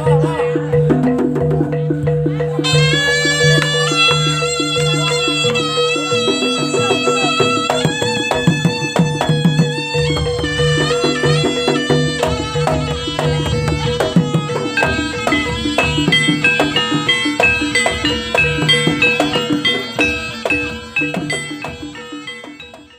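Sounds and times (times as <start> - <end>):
fast hand drumming: 0.0 - 22.9
shawm playing melody: 0.0 - 22.9.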